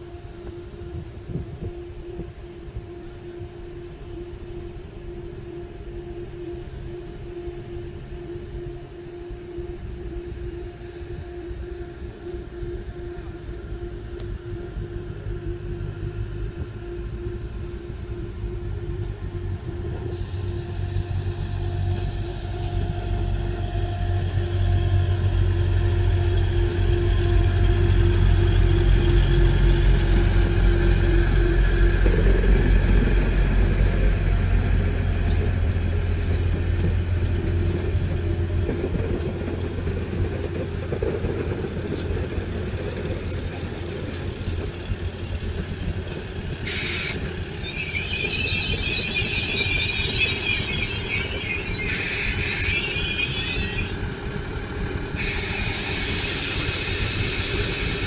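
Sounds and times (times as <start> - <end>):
droning tone: 0.0 - 58.0
high-pitched squeals from train: 0.0 - 58.0
train engine and wheel rumble: 0.0 - 58.0.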